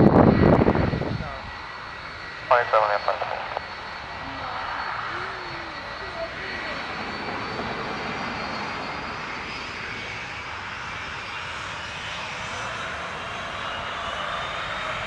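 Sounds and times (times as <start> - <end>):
jet engines running: 0.0 - 15.0
faint high whine: 1.2 - 14.9.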